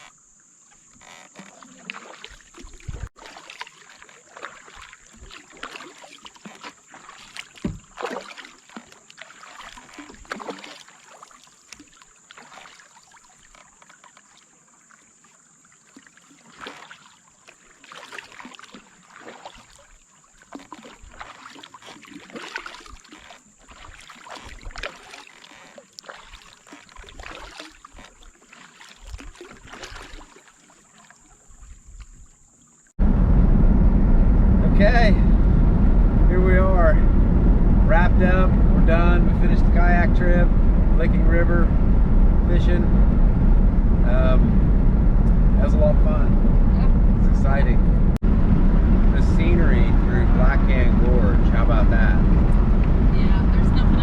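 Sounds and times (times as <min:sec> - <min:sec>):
paddle splashing in water: 0:00.0 - 0:33.0, 0:37.8 - 0:54.0.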